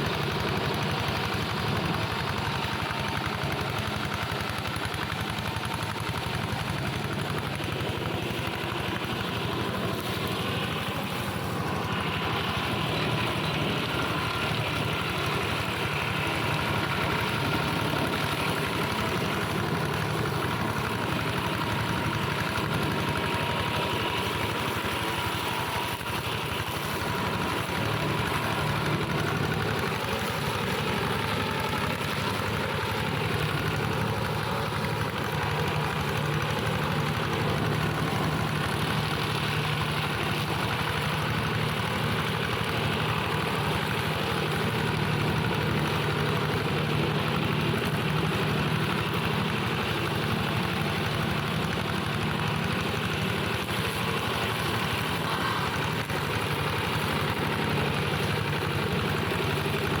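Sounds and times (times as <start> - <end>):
tractor engine running steadily: 0.0 - 60.0.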